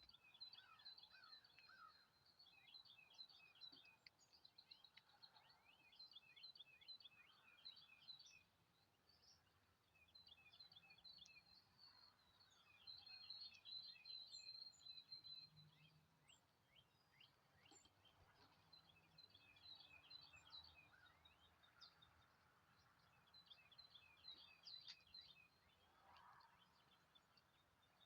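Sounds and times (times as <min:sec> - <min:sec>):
small birds chirping: 0:00.0 - 0:28.0
thin steady bird trill: 0:00.0 - 0:28.0.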